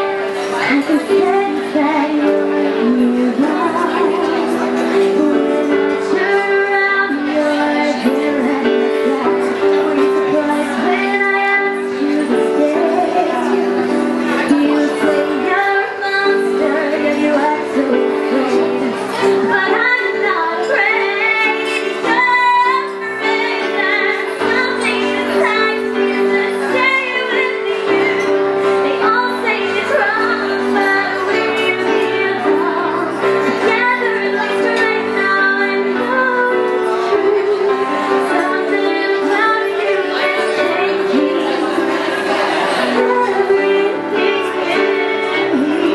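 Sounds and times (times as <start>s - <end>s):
digital piano chords: 0.0s - 45.9s
woman singing: 0.0s - 45.9s.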